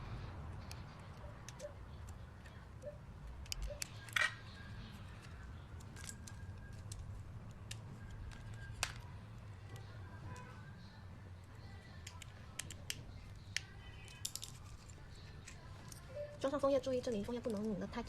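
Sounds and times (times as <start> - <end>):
small parts clicking and tapping: 0.5 - 10.5, 11.5 - 16.1.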